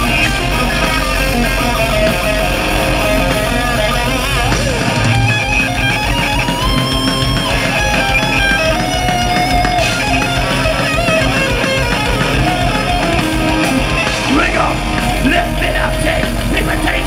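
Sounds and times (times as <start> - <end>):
distorted electric guitar solo: 0.0 - 17.0
metal band playing: 0.0 - 17.0.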